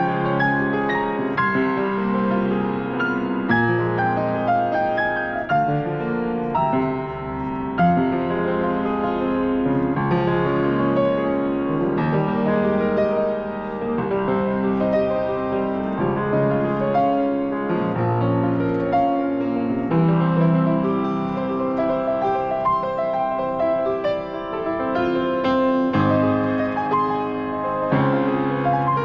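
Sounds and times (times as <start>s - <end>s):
slow gentle piano music: 0.0s - 29.0s.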